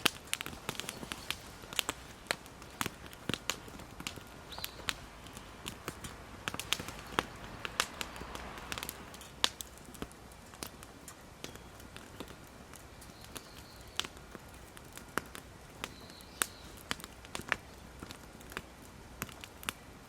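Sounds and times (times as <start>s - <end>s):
campfire crackling and popping: 0.0s - 20.0s
low hiss: 0.0s - 20.0s.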